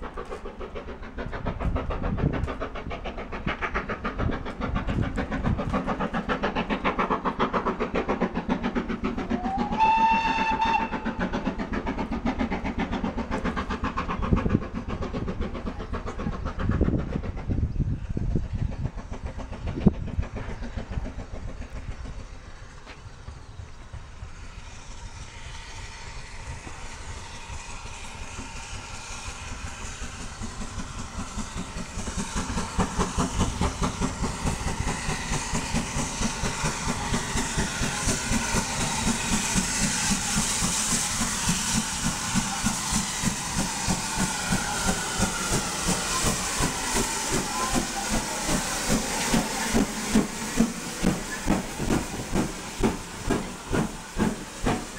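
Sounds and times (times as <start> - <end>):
steam hissing: 0.0 - 54.9
steam locomotive chuffing: 0.0 - 54.9.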